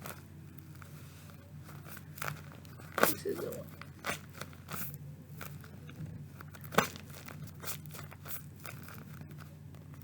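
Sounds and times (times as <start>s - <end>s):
squishy toy crinkling and rustling: 0.0s - 10.0s.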